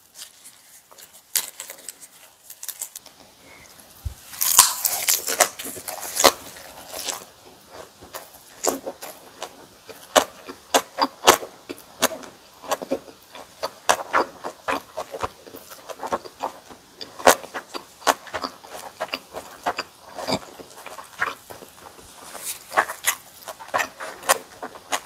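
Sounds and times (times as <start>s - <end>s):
crisp crunching and wet chewing: 4.2s - 25.0s.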